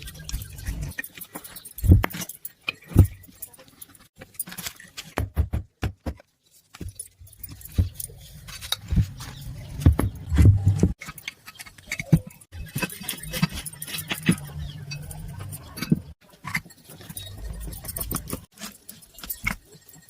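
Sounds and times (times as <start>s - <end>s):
metallic clinks and knocks: 0.0s - 5.4s, 6.6s - 20.0s.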